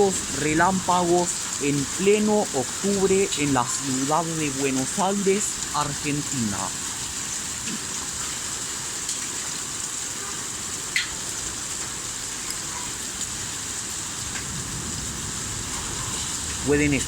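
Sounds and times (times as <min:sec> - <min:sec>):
hail and rain falling: 0:00.0 - 0:17.0.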